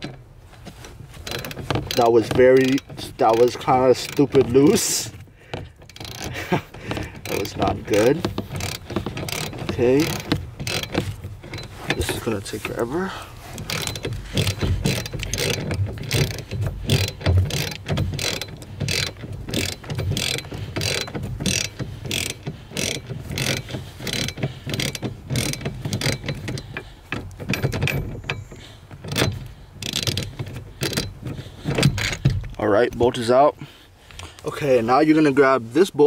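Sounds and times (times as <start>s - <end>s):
hand ratchet clicking: 0.8s - 33.1s.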